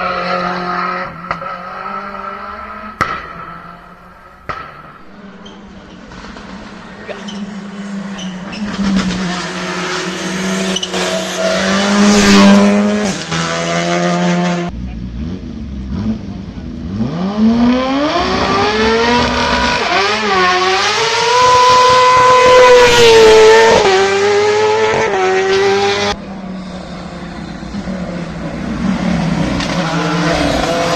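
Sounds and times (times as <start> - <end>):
race car accelerating hard: 0.0 - 30.9
race car engine revving: 0.0 - 30.9.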